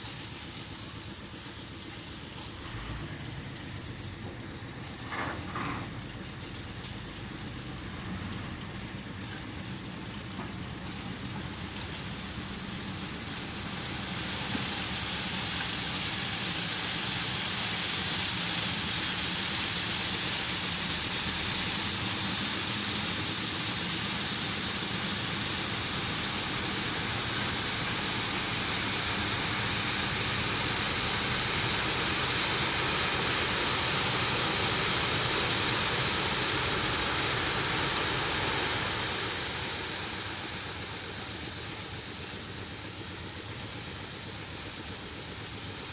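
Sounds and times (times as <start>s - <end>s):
loud steady hiss: 0.0s - 45.9s.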